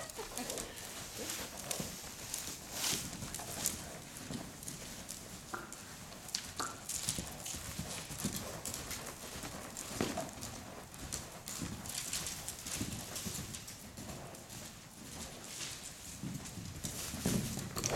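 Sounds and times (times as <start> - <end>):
horse hooves cantering on dirt: 0.0 - 17.9.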